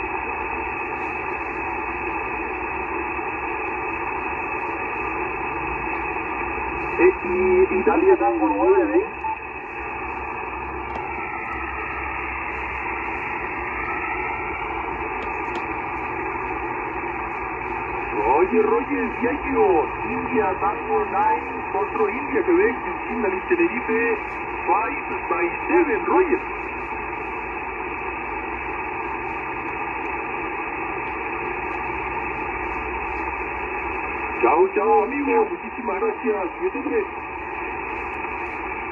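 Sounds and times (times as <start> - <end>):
shortwave radio hiss: 0.0 - 38.9.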